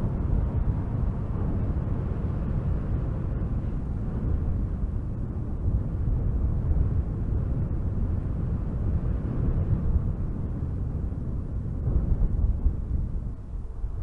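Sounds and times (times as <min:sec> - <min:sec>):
strong wind gusting through trees: 0:00.0 - 0:14.0.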